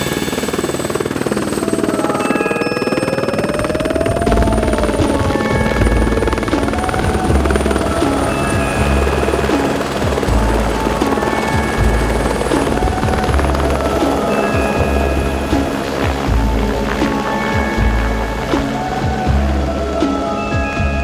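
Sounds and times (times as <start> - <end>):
helicopter rotor chopping: 0.0 - 20.3
background music: 0.0 - 21.0.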